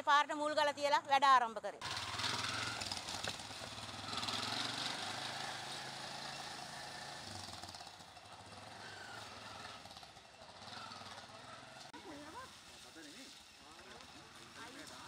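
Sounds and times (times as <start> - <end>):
auto-rickshaw engine running: 1.8 - 15.0.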